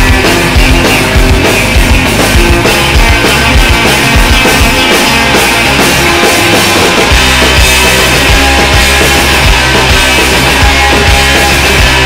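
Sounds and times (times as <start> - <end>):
punk rock music: 0.0 - 12.0.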